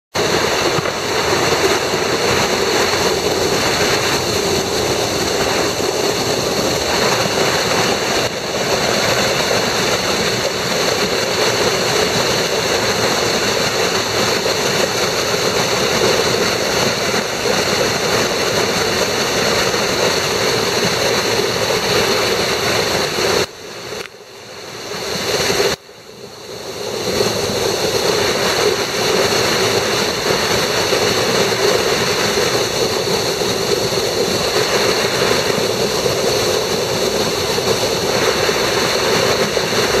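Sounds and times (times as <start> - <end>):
waterfall rushing: 0.2 - 40.0.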